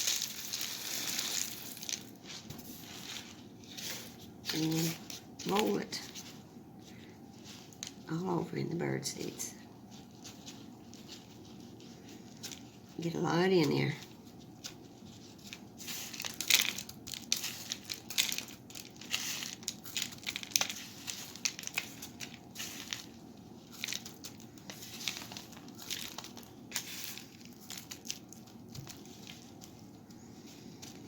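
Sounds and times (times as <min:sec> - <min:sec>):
bird seed rustling and crunching: 0:00.0 - 0:31.0.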